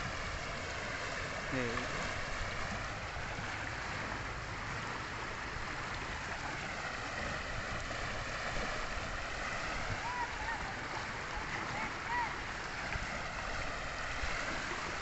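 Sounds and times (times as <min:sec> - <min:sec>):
floodwater rushing and churning: 0:00.0 - 0:15.0.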